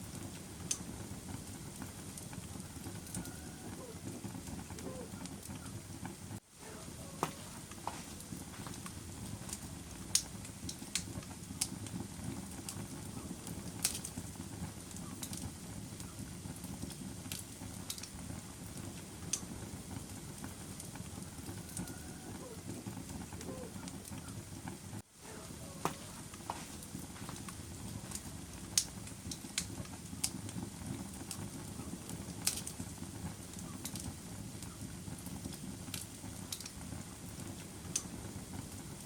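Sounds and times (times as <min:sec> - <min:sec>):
fire flame rushing: 0:00.0 - 0:39.0
wood fire crackles and pops: 0:00.0 - 0:39.0.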